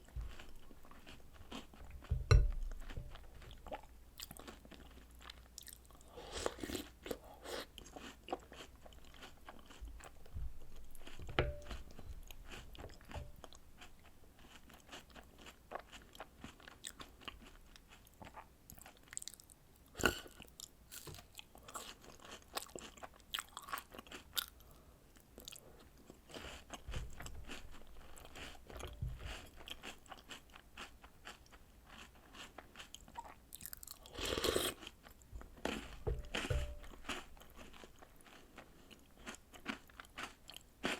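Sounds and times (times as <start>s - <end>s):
chewing and crunching snacks: 0.0s - 40.9s.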